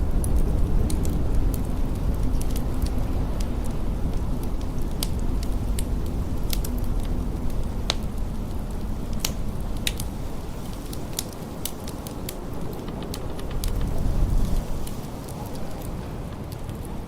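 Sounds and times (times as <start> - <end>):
blizzard wind rumbling: 0.0 - 17.0
wood fire crackling: 0.0 - 17.0.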